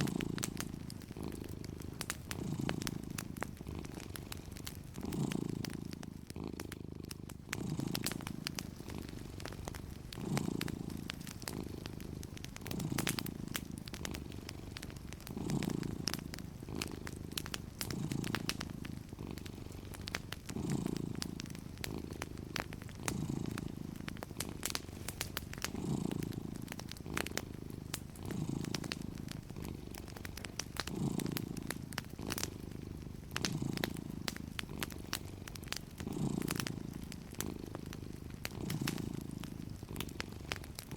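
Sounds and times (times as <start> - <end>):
cat purring: 0.0 - 40.9
wood fire crackling and popping: 0.0 - 40.9.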